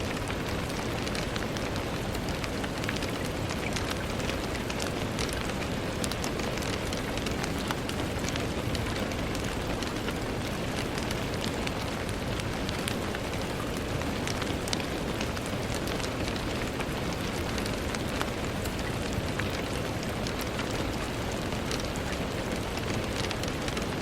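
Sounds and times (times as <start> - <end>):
rain on a window: 0.0 - 24.0.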